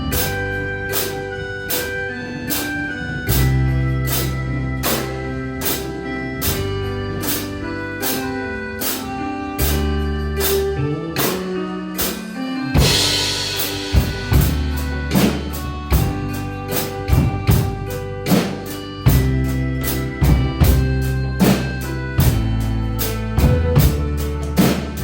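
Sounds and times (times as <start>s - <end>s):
backing track music: 0.0s - 25.0s
drum kit playing a beat: 0.0s - 25.0s.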